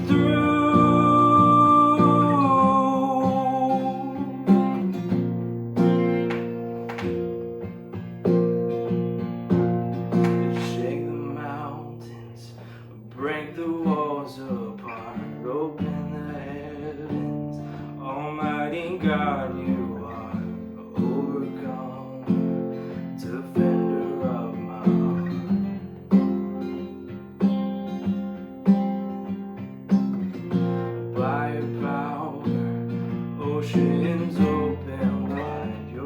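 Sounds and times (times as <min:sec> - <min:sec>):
acoustic guitar strummed chords: 0:00.0 - 0:36.0.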